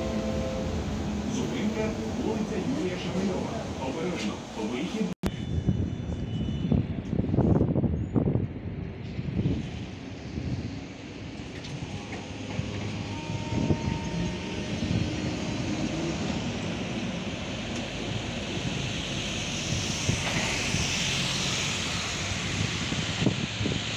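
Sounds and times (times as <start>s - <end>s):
tram wheels on rails: 0.0s - 5.4s, 6.0s - 23.9s.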